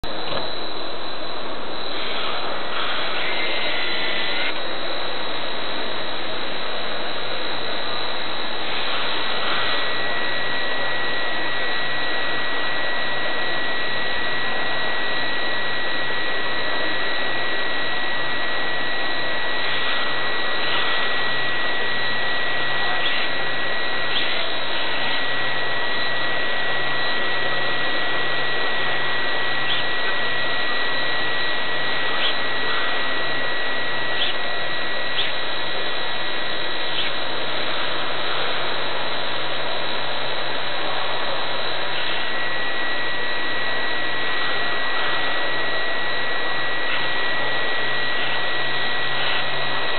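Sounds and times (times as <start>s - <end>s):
electric motors whirring: 0.0s - 49.9s
high thin whine: 0.0s - 49.9s.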